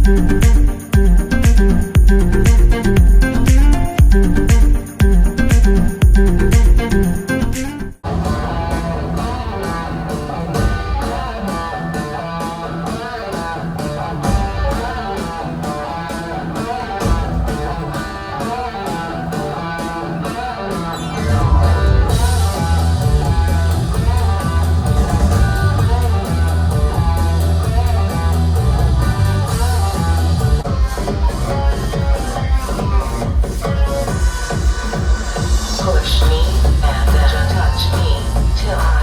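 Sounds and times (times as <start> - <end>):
guitar music over a beat: 0.0 - 34.8
heavy bass line: 0.0 - 39.0.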